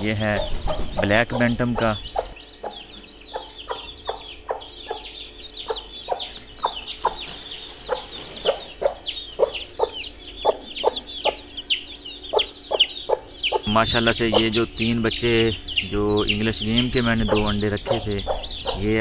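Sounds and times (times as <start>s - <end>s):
chicks peeping: 0.0s - 19.0s
hen clucking: 0.0s - 19.0s.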